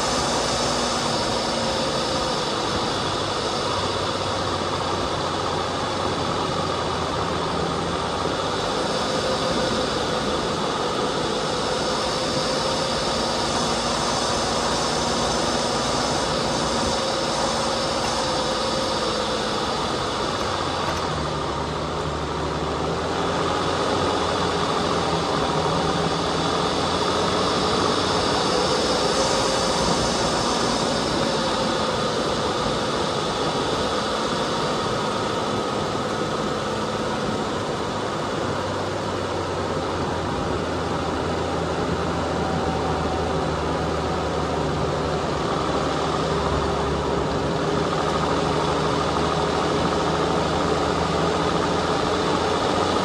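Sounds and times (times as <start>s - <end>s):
off-road vehicle engine running: 0.0s - 53.0s
steady noisy hiss: 0.0s - 53.0s.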